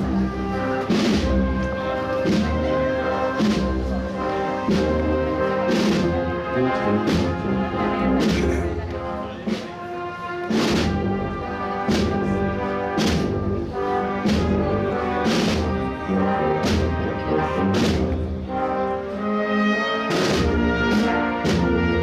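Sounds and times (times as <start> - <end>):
brass chords: 0.0 - 22.0.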